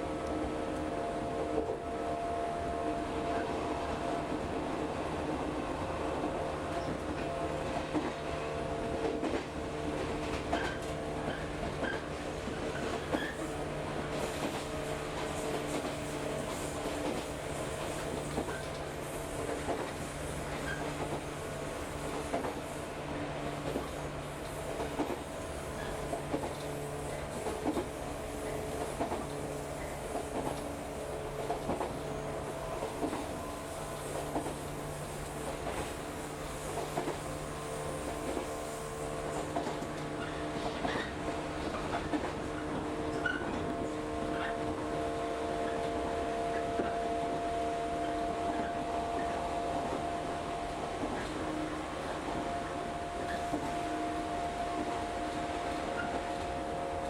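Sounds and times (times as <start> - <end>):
train hum: 0.0 - 57.0
train rumbling: 0.0 - 57.0.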